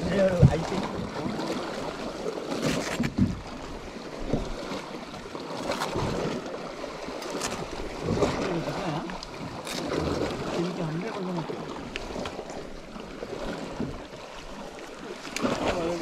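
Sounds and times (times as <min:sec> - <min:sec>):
water lapping against a hull: 0:00.0 - 0:16.0.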